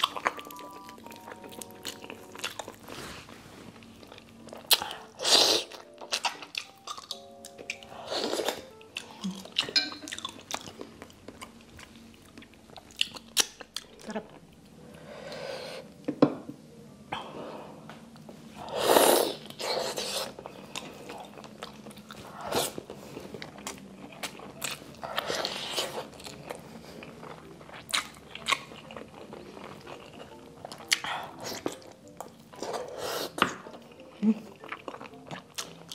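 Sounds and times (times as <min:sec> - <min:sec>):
chewing and biting: 0:00.0 - 0:14.4, 0:19.5 - 0:35.9.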